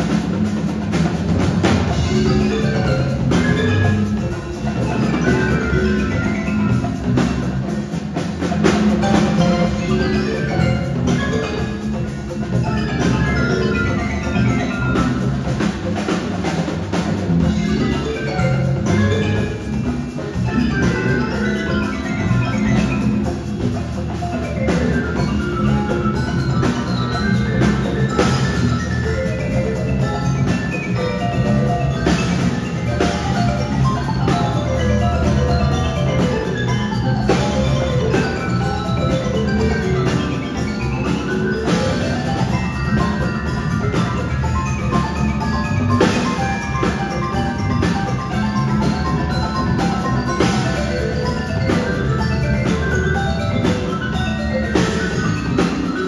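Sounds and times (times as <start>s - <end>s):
congas: 0.0s - 56.0s
drum kit: 0.0s - 56.0s
marimba runs: 0.0s - 56.0s.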